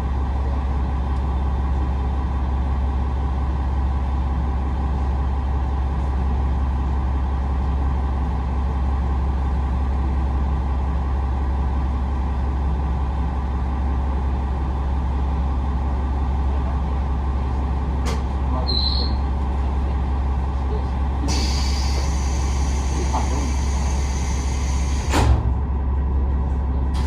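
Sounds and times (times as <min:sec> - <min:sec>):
diesel engine drone: 0:00.0 - 0:27.0
train carriage running noise: 0:00.0 - 0:27.0.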